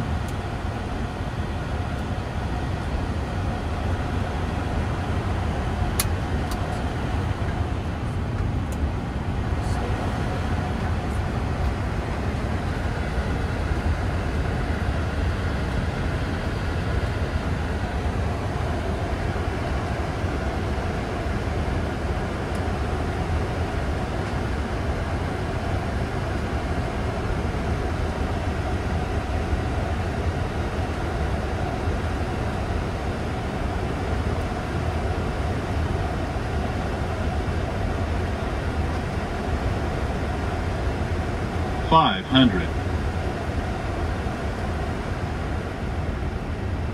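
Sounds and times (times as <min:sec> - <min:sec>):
cockpit airflow and engine rumble: 0:00.0 - 0:46.9
faint steady hum: 0:00.0 - 0:46.9.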